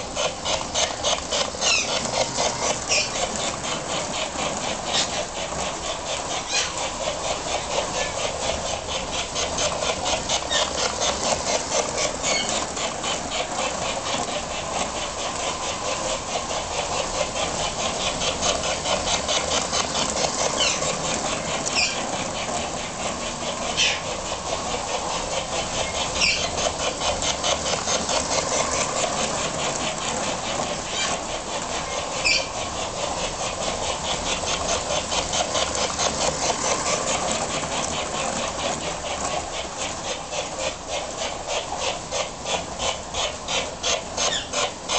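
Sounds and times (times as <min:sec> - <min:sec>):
model train mechanical clatter: 0:00.0 - 0:44.9.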